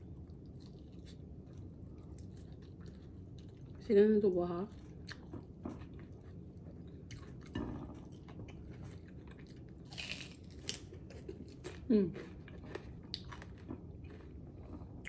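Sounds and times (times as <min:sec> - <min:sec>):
person chewing: 0:00.3 - 0:03.8, 0:04.8 - 0:15.0.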